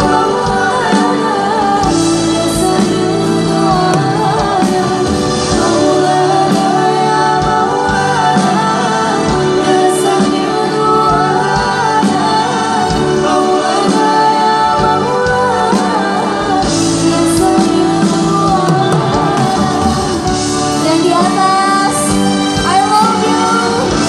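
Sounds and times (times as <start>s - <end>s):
pop band playing: 0.0s - 24.0s
woman singing: 0.0s - 24.0s.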